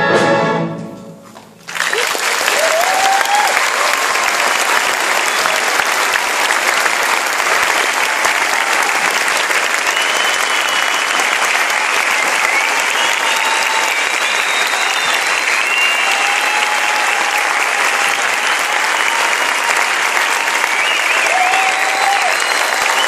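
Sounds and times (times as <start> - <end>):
audience applauding: 1.6 - 23.0.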